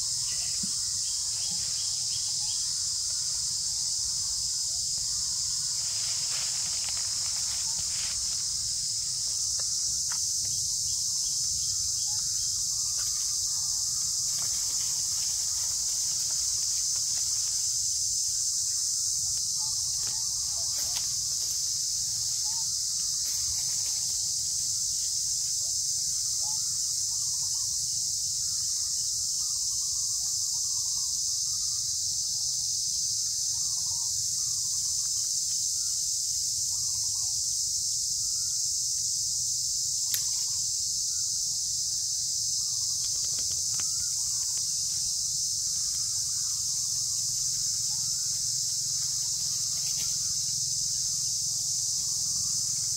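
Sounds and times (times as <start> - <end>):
insect chorus drone: 0.0 - 52.9.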